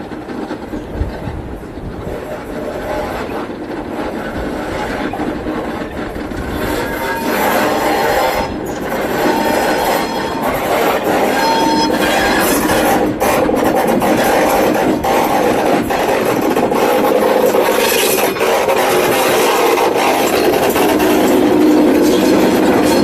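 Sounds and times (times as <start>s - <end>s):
diesel locomotive running: 0.0s - 23.0s
steel wheels squealing on track: 0.3s - 23.0s.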